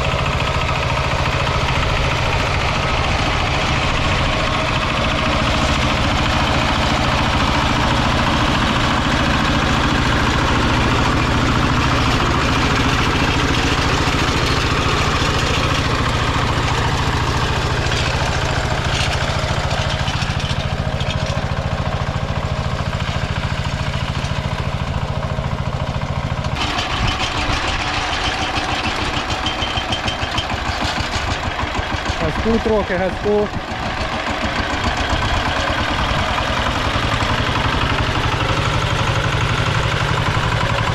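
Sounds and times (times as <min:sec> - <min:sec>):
diesel engine running and chugging: 0:00.0 - 0:40.9.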